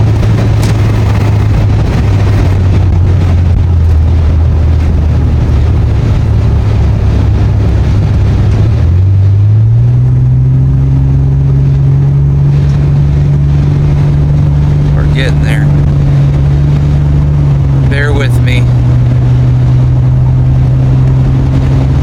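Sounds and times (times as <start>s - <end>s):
car engine humming: 0.0s - 22.0s
road and wind noise: 0.0s - 22.0s.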